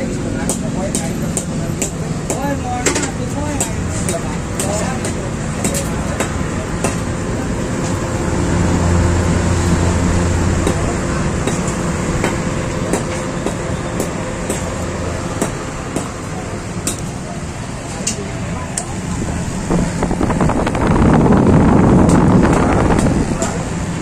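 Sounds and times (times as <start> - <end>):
exhaust fan running: 0.0 - 24.0.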